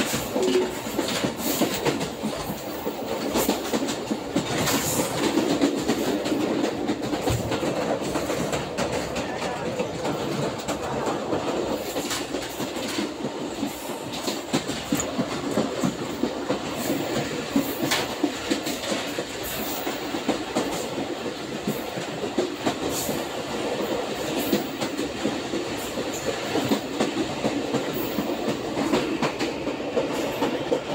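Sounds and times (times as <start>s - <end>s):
train rumbling on track: 0.0s - 30.9s
wheels clicking over rail joints: 0.0s - 30.9s.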